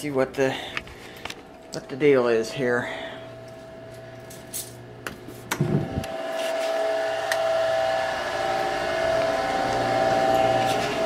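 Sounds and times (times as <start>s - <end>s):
circulator pump humming: 0.0s - 11.0s.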